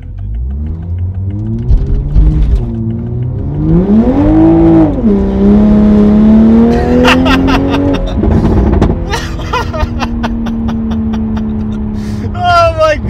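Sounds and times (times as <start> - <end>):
car engine revving loudly: 0.3 - 12.2.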